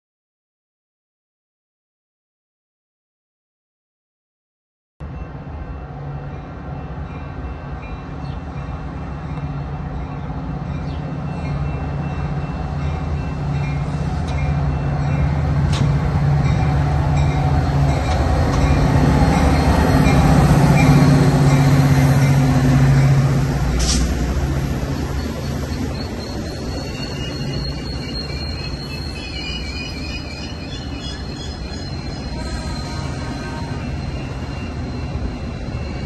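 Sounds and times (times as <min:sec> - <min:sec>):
train rumble approaching: 0:05.0 - 0:36.0.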